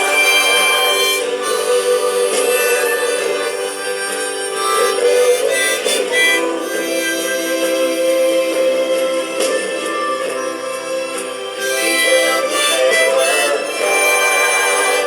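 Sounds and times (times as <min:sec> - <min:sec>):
accordion melody: 0:00.0 - 0:15.0.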